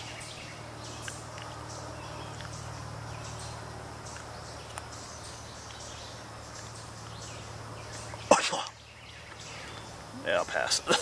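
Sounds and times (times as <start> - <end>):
birds chirping: 0.0 - 11.0
faint low hum: 0.0 - 11.0
insects chirping: 0.0 - 11.0.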